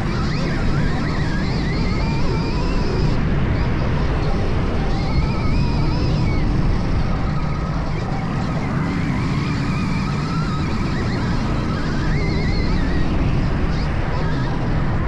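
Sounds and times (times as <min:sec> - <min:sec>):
electric motor whining: 0:00.0 - 0:15.0
steady rushing noise: 0:00.0 - 0:15.0.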